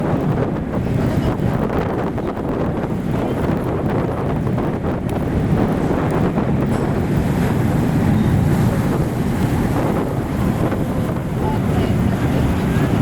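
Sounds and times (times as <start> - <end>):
ferry engine and water rumble: 0.0 - 13.0
wind buffeting microphone: 0.0 - 13.0.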